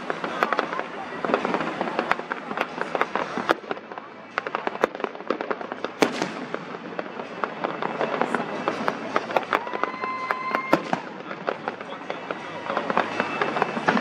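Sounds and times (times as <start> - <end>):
fireworks popping and crackling: 0.0 - 14.0
loud firework bang: 0.0 - 14.0.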